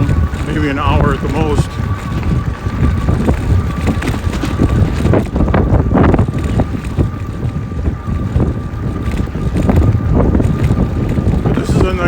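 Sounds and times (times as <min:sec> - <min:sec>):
electric motor whine: 0:00.0 - 0:12.0
tyres rumbling on rough ground: 0:00.0 - 0:12.0
wind buffeting microphone: 0:00.0 - 0:12.0.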